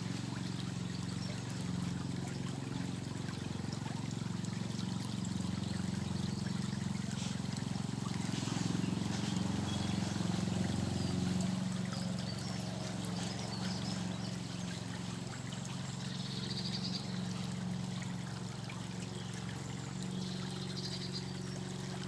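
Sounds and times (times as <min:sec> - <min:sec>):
steady low hum: 0:00.0 - 0:22.0
water trickling in a stream: 0:00.0 - 0:22.0.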